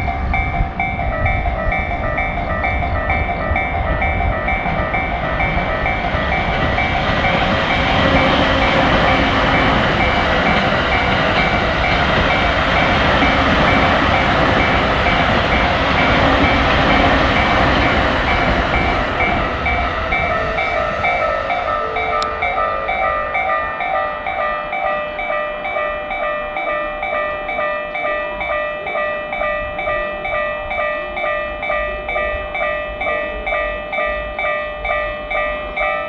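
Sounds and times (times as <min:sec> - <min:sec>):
railroad crossing bell ringing: 0:00.0 - 0:36.0
train running past: 0:00.0 - 0:36.0.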